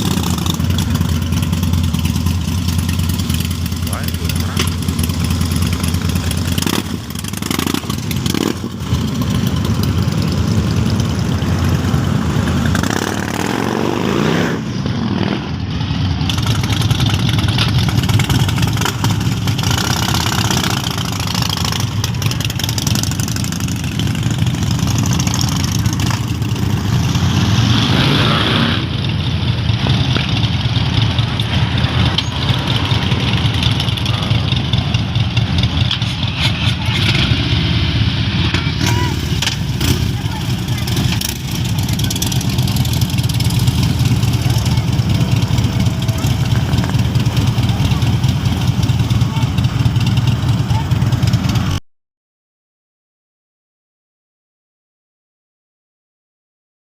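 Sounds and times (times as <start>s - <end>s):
motorcycle engine revving: 0.0s - 51.8s.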